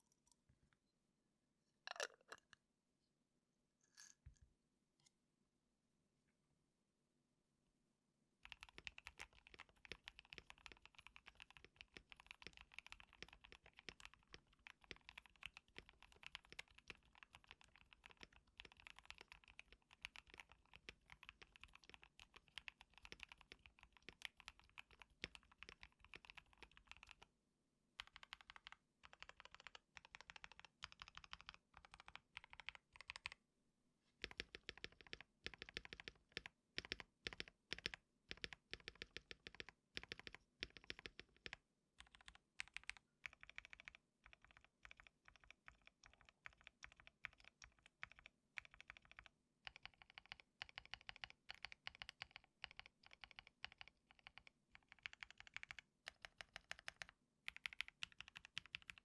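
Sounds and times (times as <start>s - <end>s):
typing on mechanical keyboard: 8.4s - 27.3s, 28.0s - 33.4s, 34.2s - 59.0s.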